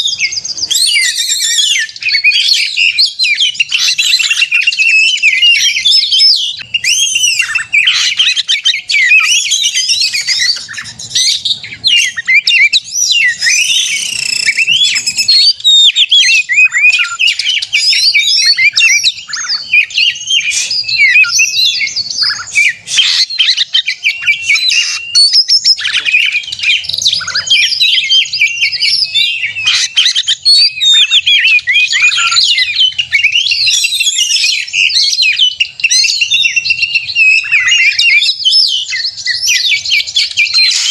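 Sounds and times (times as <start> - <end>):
bird singing rapid whistles: 0.0 - 40.9.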